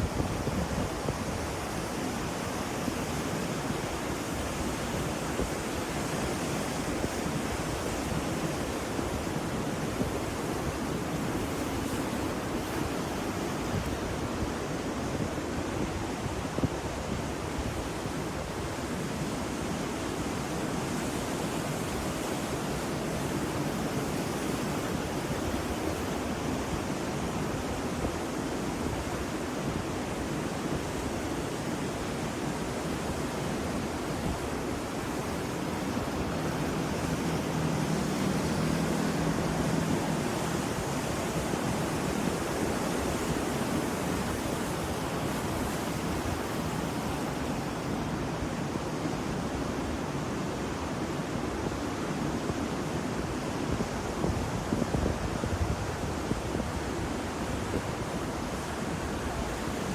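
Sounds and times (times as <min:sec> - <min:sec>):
ocean surf waves: 0:00.0 - 0:59.9.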